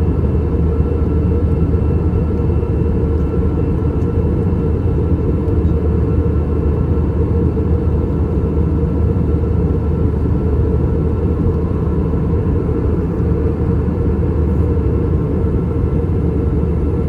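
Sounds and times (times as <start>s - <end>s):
aircraft cabin rumble: 0.0s - 17.0s.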